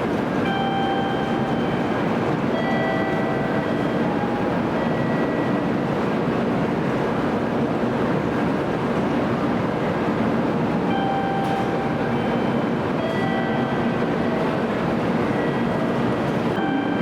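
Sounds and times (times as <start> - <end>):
train rumble and hiss: 0.0 - 17.0.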